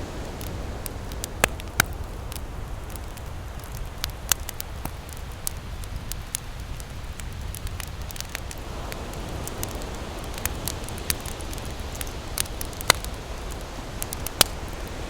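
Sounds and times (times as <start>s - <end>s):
campfire crackling and popping: 0.0s - 15.0s
ocean surf rumble: 0.0s - 15.0s.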